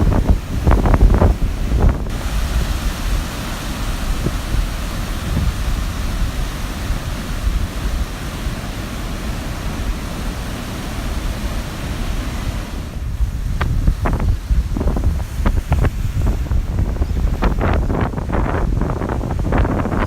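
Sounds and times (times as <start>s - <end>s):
heavy surf breaking: 0.0s - 20.0s
wind buffeting microphone: 0.0s - 20.0s.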